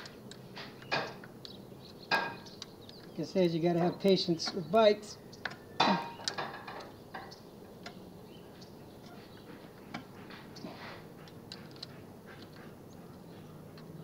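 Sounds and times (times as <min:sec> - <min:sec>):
light clicks and metal ticks: 0:00.0 - 0:14.0.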